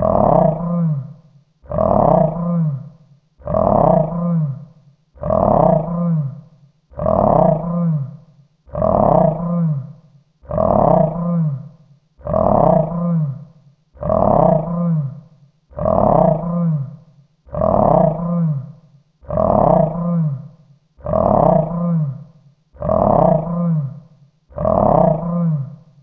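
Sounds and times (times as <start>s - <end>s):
deep roaring growl: 0.0s - 25.8s.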